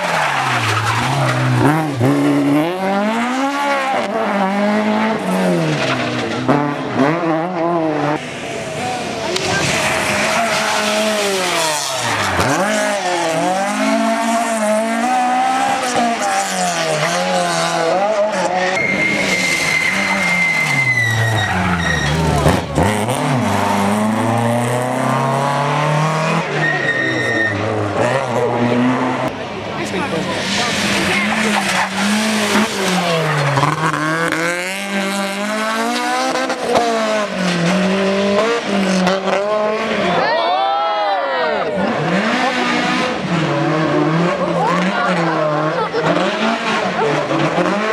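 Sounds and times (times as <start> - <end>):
rally car engine revving: 0.0 - 47.9.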